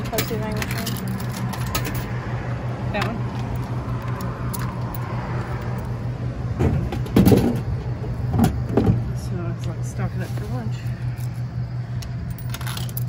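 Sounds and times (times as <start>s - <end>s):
low mechanical hum: 0.0s - 13.0s
rumbling and clunking: 0.0s - 13.0s.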